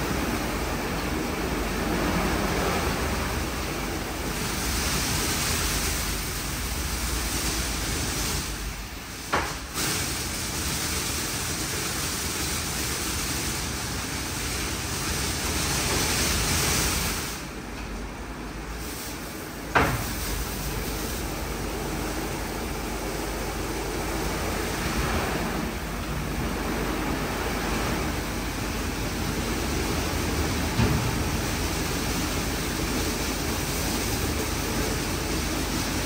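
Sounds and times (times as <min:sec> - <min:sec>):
car wash water spray rushing: 0:00.0 - 0:36.0.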